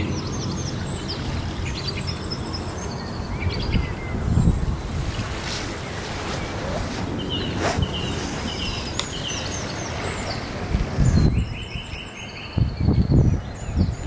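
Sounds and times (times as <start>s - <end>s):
songbirds chirping: 0.0s - 14.0s
wind buffeting microphone: 0.0s - 14.0s.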